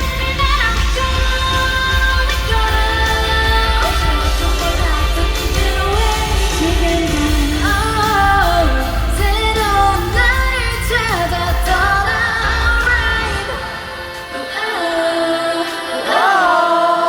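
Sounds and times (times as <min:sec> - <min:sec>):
bass-heavy backing track: 0:00.0 - 0:14.7
person singing live: 0:00.0 - 0:17.0.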